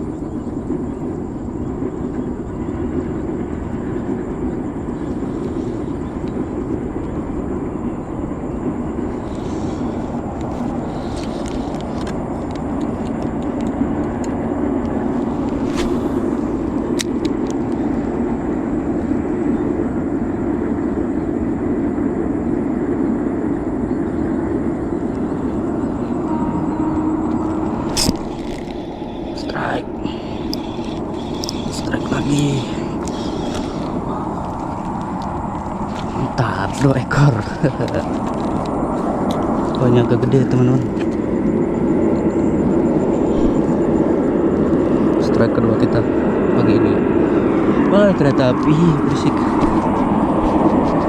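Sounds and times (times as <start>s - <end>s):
train passing rumble: 0.0s - 51.0s.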